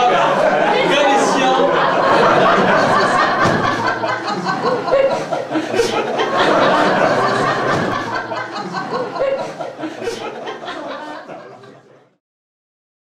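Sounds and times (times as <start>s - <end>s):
people laughing: 0.0s - 12.2s
people talking: 0.0s - 12.2s.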